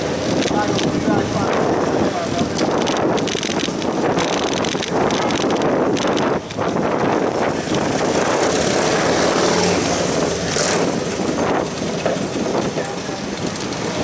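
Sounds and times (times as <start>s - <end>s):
road noise: 0.0s - 14.0s
wind rushing: 0.0s - 14.0s.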